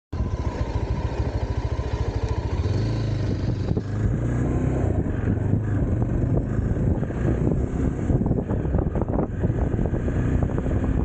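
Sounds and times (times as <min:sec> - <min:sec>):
motorcycle engine revving: 0:00.2 - 0:11.0.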